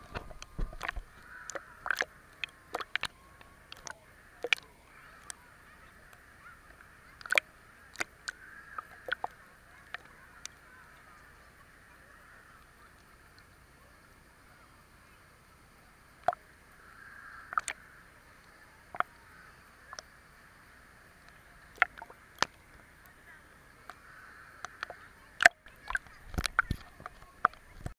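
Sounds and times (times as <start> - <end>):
muffled hiss: 0.0 - 27.9
water lapping against camera: 0.0 - 27.9.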